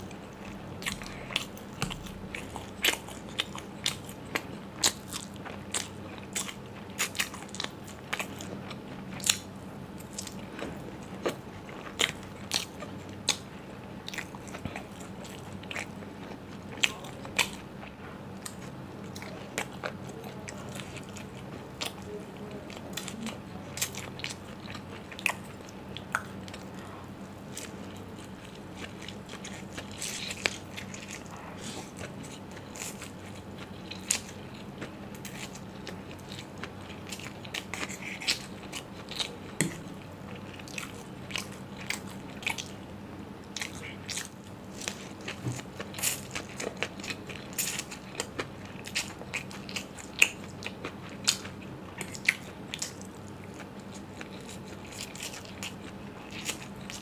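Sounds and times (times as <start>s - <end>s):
chewing food: 0.0s - 57.0s
faint low hum: 0.0s - 57.0s.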